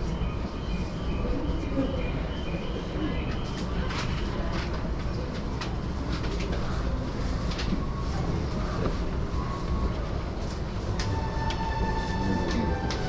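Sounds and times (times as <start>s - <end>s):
train wheels rumbling on rails: 1.3s - 13.0s.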